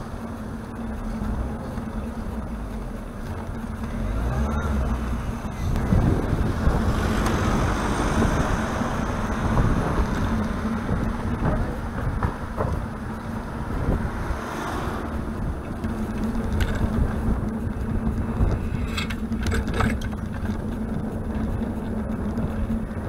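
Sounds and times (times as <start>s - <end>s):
bicycle ride rumble: 0.0s - 23.0s
car traffic: 0.0s - 23.0s
wind buffeting microphone: 0.0s - 23.0s.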